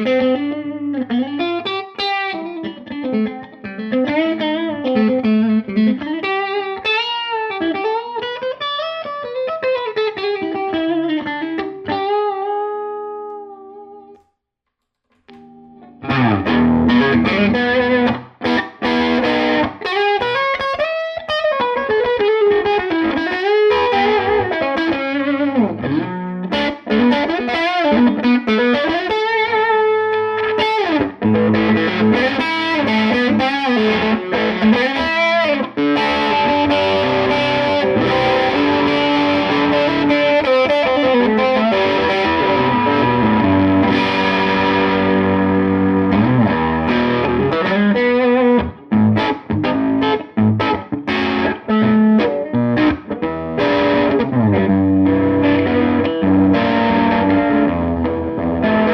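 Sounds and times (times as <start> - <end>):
distorted electric guitar: 0.0 - 14.2, 15.0 - 58.9.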